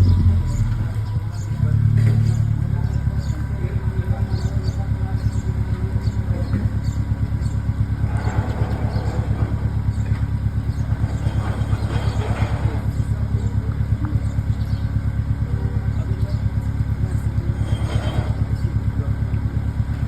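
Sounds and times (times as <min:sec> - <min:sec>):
car engine running at low revs: 0:00.0 - 0:20.0.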